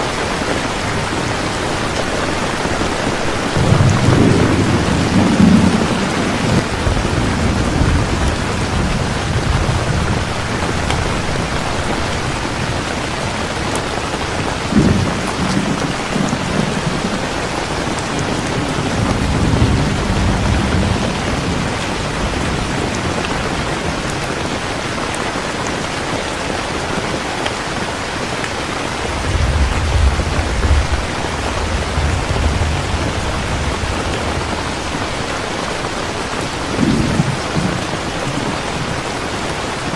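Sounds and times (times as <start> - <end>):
thunder rumbling: 0.0 - 25.2, 28.8 - 39.9
heavy rain: 0.0 - 39.9.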